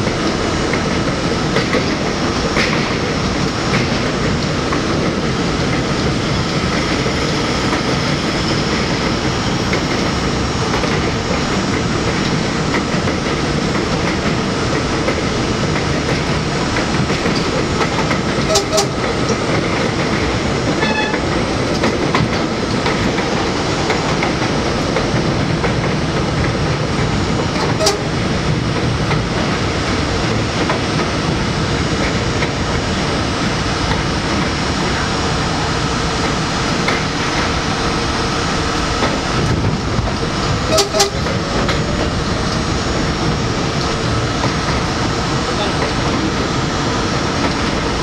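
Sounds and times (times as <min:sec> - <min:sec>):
sharp track clicks: 0:00.0 - 0:48.0
train wheels rumbling on rail: 0:00.0 - 0:48.0.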